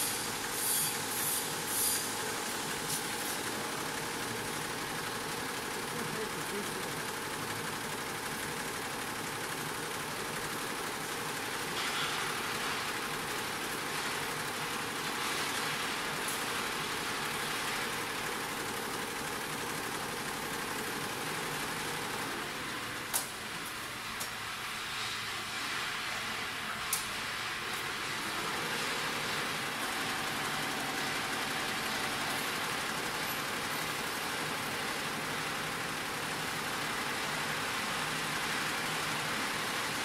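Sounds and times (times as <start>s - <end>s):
embroidery machine stitching: 0.0s - 23.1s, 27.7s - 40.0s.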